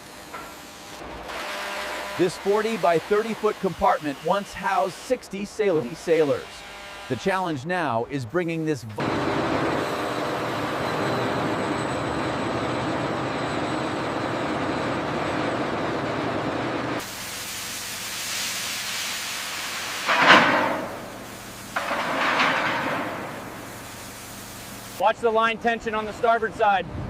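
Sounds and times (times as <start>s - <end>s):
industrial hissing: 0.0s - 14.7s, 17.0s - 25.2s.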